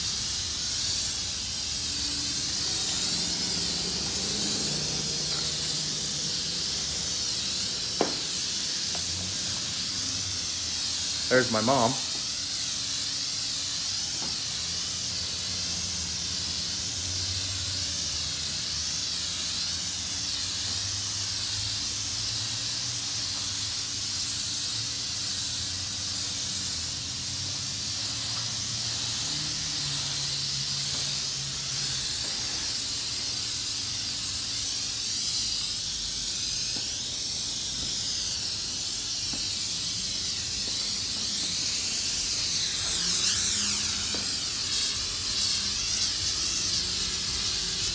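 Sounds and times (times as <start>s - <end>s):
spray wand hissing: 0.0s - 47.9s.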